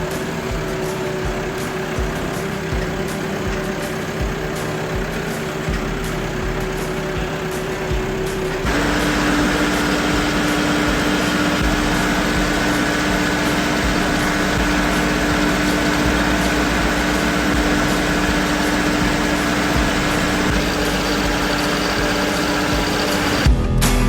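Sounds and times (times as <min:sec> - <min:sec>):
constant whine: 0:00.0 - 0:23.5
excavator engine running: 0:00.0 - 0:23.5.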